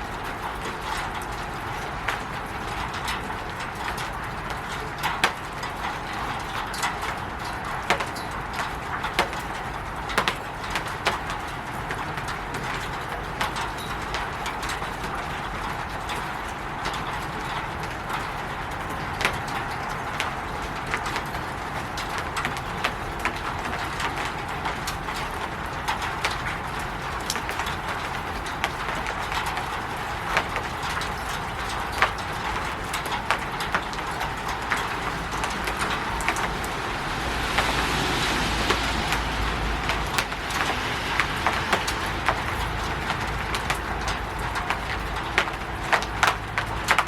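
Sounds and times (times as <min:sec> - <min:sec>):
rain falling on a roof: 0:00.0 - 0:47.0.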